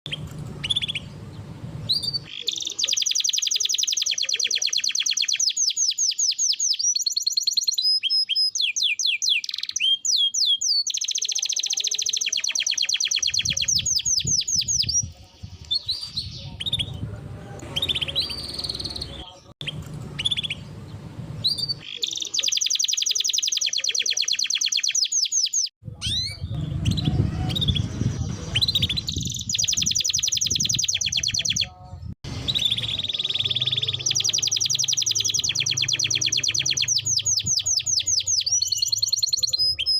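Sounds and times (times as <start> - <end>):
canary singing trills: 0.1 - 39.9.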